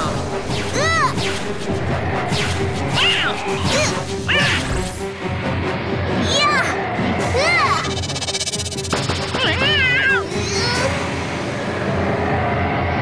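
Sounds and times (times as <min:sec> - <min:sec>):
cartoon background music: 0:00.0 - 0:12.2.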